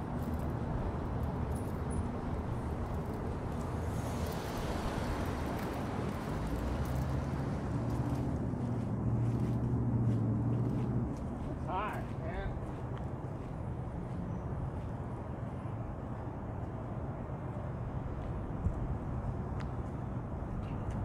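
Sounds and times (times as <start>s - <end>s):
engine hum: 0.0s - 21.0s
road traffic rumble: 0.0s - 21.0s.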